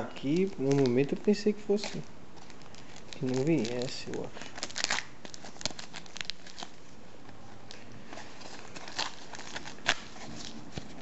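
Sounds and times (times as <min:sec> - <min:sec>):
packaging crinkling and clicking: 0:00.3 - 0:06.8, 0:08.4 - 0:11.0.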